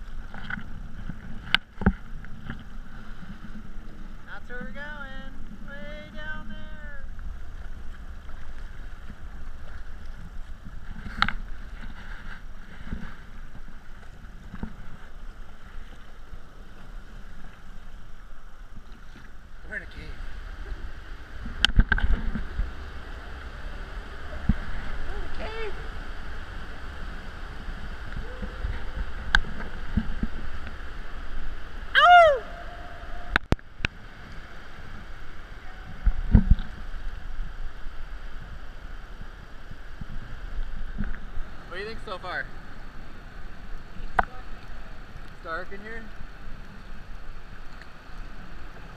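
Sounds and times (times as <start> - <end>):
steady low rumble: 0.0 - 11.8, 12.4 - 48.9
water washing against hull: 0.0 - 48.9
paddle splashing in water: 7.0 - 48.9.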